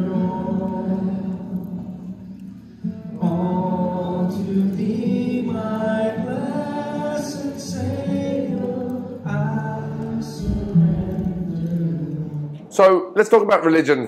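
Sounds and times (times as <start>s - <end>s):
group singing: 0.0s - 2.1s, 3.2s - 12.7s
acoustic guitar: 0.0s - 14.0s.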